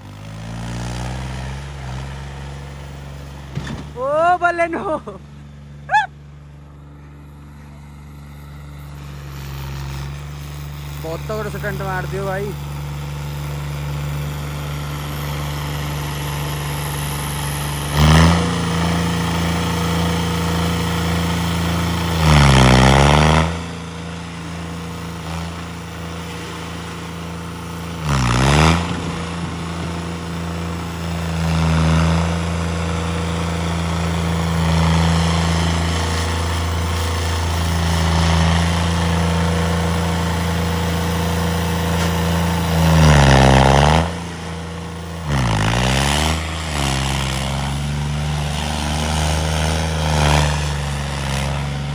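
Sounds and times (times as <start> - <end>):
engines idling: 0.0 - 51.9
vehicles passing close by: 0.0 - 51.9.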